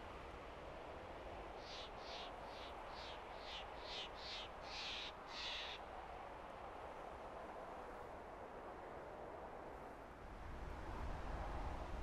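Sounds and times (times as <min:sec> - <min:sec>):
mountain wind: 0:00.0 - 0:12.0.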